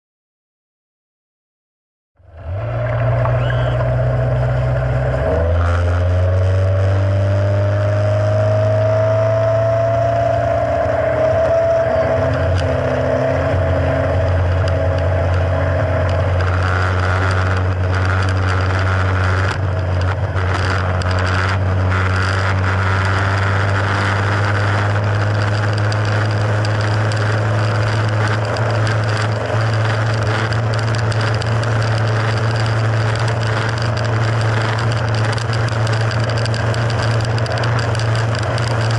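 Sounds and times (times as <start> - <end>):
outboard motor running steadily: 2.2 - 7.1, 11.9 - 38.9.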